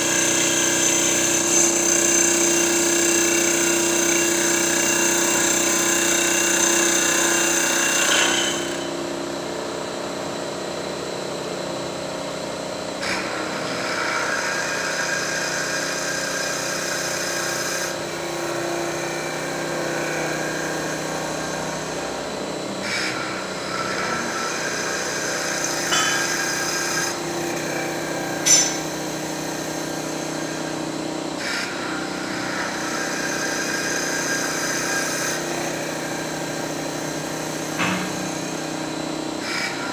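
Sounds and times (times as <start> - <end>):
tool cutting wood: 0.0 - 9.0, 13.0 - 39.9
lathe machine hum: 0.0 - 39.9.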